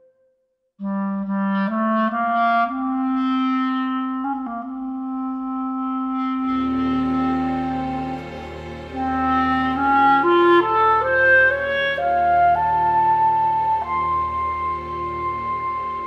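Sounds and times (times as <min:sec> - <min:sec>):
clarinet playing: 0:00.0 - 0:16.0.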